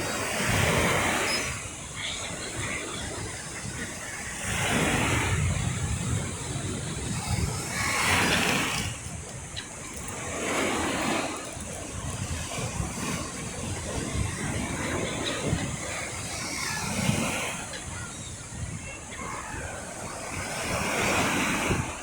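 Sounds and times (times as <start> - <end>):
waves breaking on shore: 0.0 - 22.0
wind rumbling on microphone: 0.0 - 22.0.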